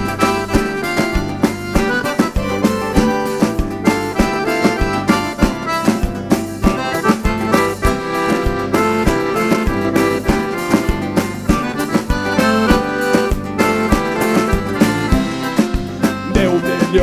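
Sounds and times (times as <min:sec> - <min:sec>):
accordion: 0:00.0 - 0:17.0
acoustic guitars: 0:00.0 - 0:17.0
bass guitar: 0:00.0 - 0:17.0
steady drum beat: 0:00.0 - 0:17.0.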